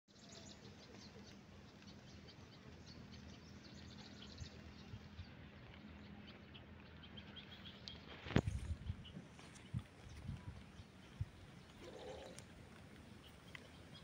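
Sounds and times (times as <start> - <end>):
faint outdoor ambience: 0.1 - 14.0
small birds chirping: 0.1 - 14.0.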